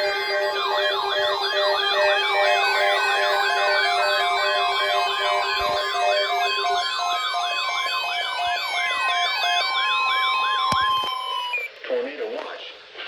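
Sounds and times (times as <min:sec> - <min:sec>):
on-off beeps: 0:00.0 - 0:11.7
steady alert tone: 0:00.0 - 0:11.7
weather alert radio alarms wailing: 0:00.0 - 0:11.7.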